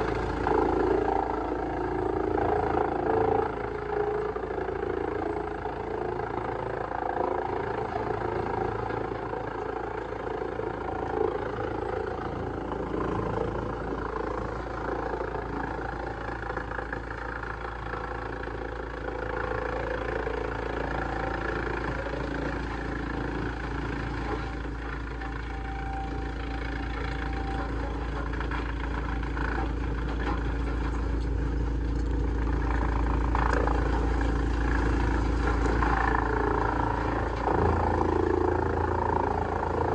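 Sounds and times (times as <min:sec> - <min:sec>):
wood shredder engine drone: 0:00.0 - 0:39.9.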